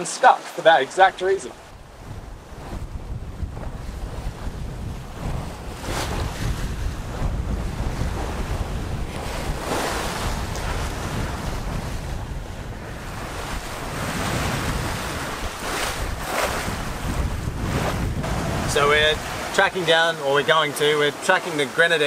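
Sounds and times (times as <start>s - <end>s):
water rushing along boat hull: 0.0s - 22.0s
wind buffeting microphone: 1.0s - 20.1s.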